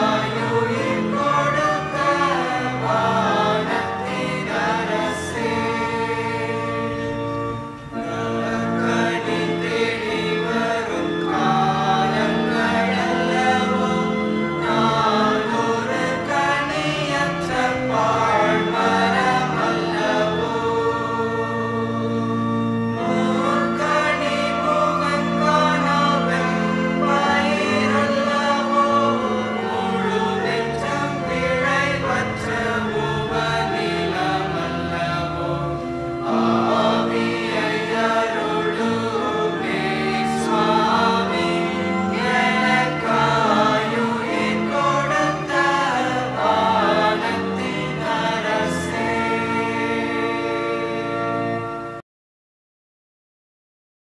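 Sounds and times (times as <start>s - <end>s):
choir singing a hymn: 0.0s - 52.0s.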